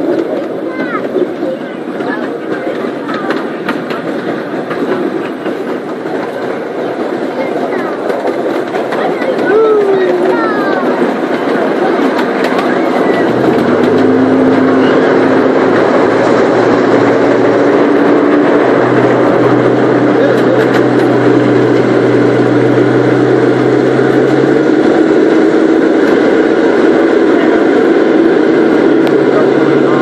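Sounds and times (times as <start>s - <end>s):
small train running on track: 0.0s - 30.0s.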